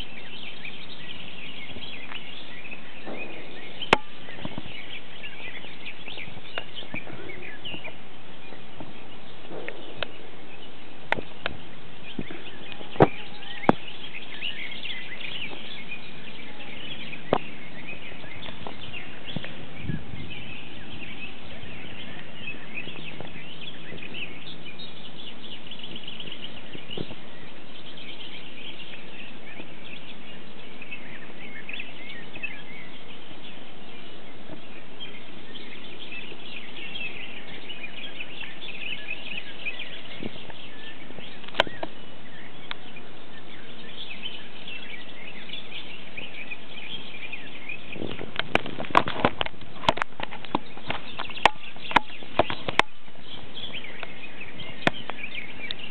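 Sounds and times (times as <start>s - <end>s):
background hiss: 0.0s - 55.9s
birds chirping and singing: 0.0s - 55.9s.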